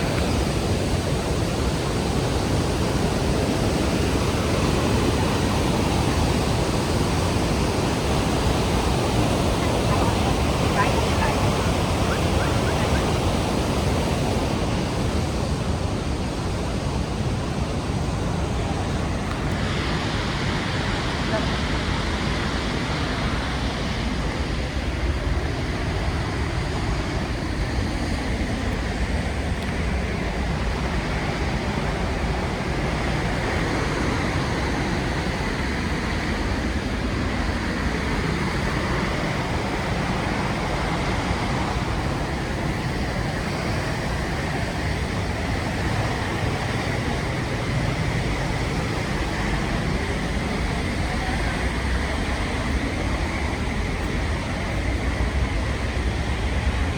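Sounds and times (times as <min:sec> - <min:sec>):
large waterfall roaring: 0:00.0 - 0:56.9.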